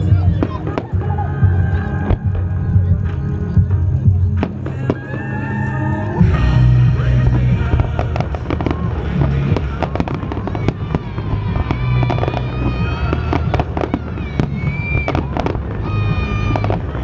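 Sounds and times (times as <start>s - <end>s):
fireworks bangs and crackling: 0.0s - 17.0s
music playing: 0.0s - 17.0s.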